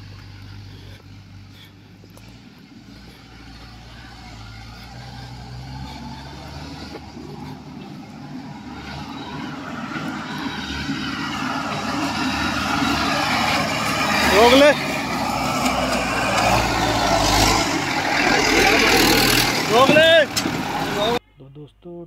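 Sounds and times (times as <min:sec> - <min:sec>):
tractor engine running: 0:00.0 - 0:21.2.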